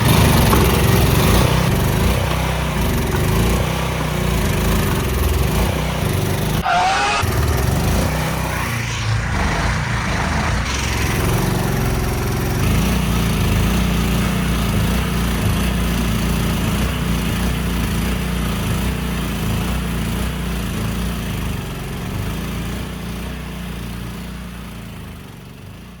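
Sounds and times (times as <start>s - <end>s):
boat motor droning: 0.0s - 9.2s, 9.8s - 22.4s.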